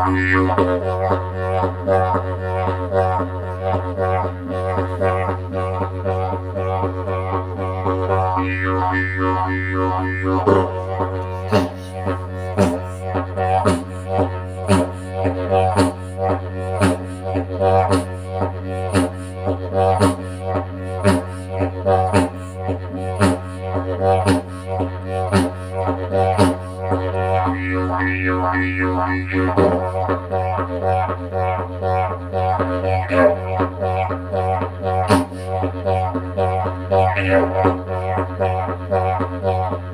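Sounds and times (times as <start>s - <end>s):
didgeridoo drone: 0.0s - 39.9s.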